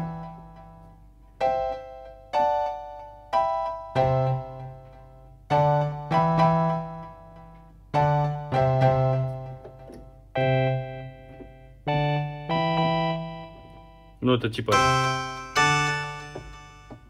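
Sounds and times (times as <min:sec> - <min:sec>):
keyboard piano chords: 0:00.0 - 0:17.0.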